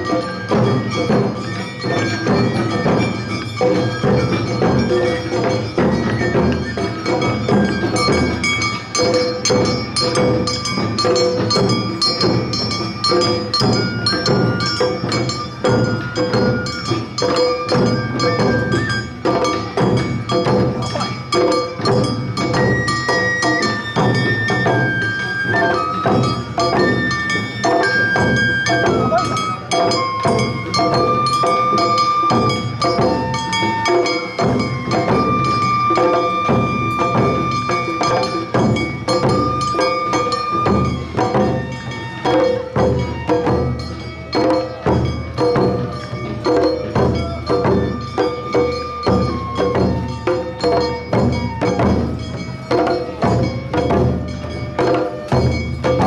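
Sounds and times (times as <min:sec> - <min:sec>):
bamboo flute melody: 0:00.0 - 0:56.0
drums beating: 0:00.0 - 0:56.0.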